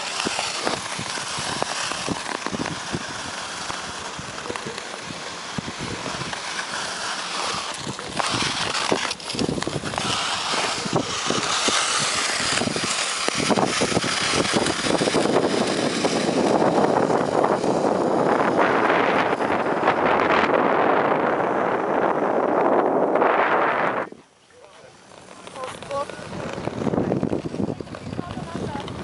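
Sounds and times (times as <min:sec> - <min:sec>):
wind rushing over microphone: 0:00.0 - 0:24.2, 0:25.4 - 0:29.0
ice-skate blades scraping ice: 0:00.0 - 0:29.0.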